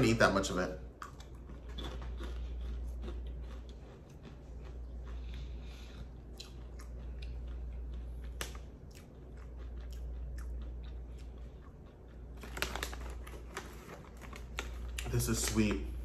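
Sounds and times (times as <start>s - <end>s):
low steady hum: 0.0s - 16.0s
person chewing popcorn: 0.9s - 15.7s.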